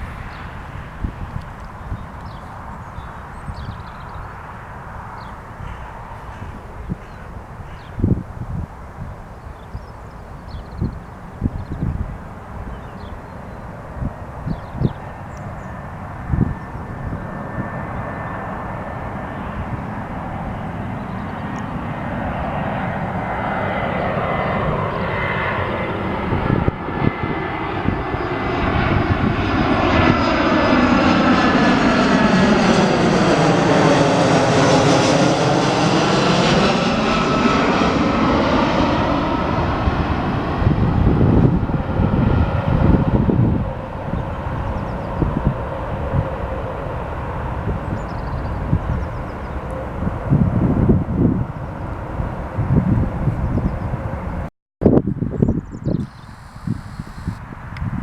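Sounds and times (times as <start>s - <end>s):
jet airliner passing overhead: 0.0s - 58.0s
wind gusts on microphone: 0.0s - 58.0s.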